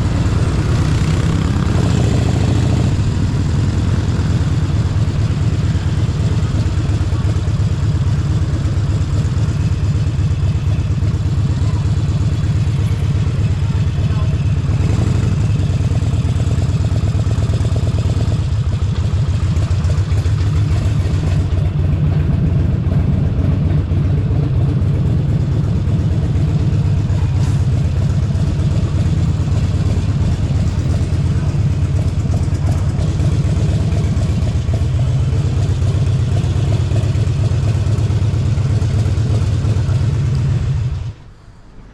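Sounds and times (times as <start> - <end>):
motorcycle engine running: 0.0 - 41.4.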